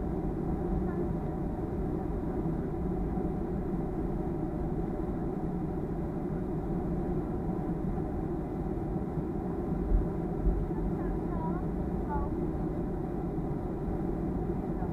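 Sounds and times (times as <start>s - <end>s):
airplane cabin engine drone: 0.0s - 14.9s.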